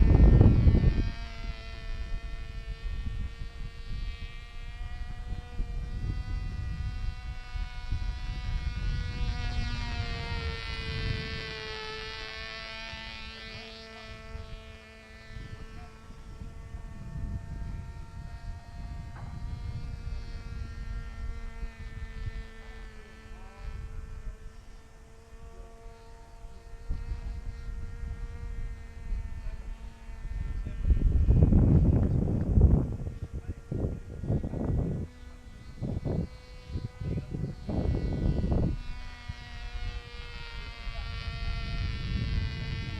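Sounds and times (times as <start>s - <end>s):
model glider motor droning: 0.0s - 42.9s
wind buffeting microphone: 0.0s - 42.9s.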